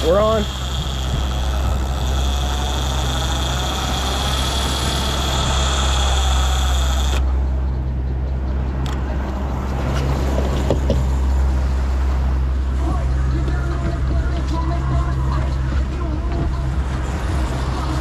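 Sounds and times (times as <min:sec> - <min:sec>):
boat motor running: 0:00.0 - 0:18.0
wind: 0:00.0 - 0:18.0.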